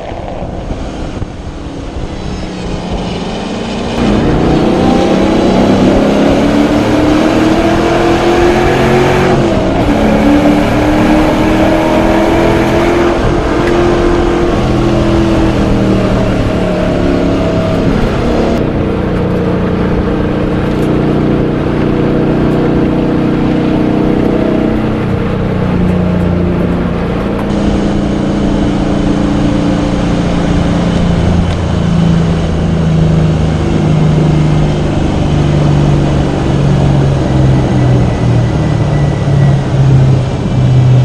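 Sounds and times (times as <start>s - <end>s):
race car engine accelerating: 0.0s - 41.0s.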